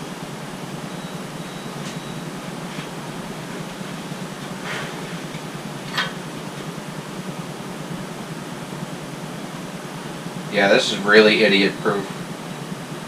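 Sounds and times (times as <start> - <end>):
fan-like hiss and hum: 0.0 - 13.0.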